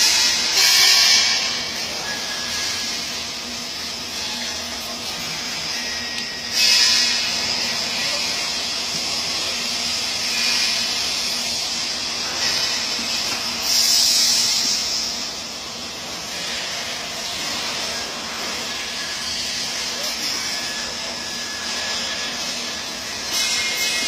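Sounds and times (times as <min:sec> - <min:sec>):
welding arc hissing: 0:00.0 - 0:24.0
welding machine hum: 0:00.0 - 0:24.0.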